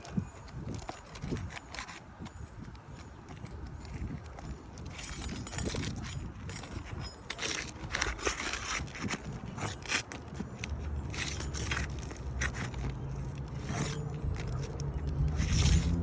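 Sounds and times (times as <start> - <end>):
flat bar scraping roof shingles: 0.0 - 16.0.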